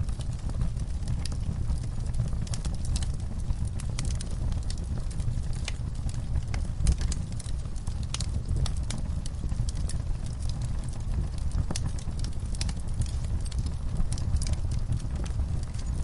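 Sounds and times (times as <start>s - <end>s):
log fire crackling: 0.0s - 16.0s
low rumble of flames: 0.0s - 16.0s.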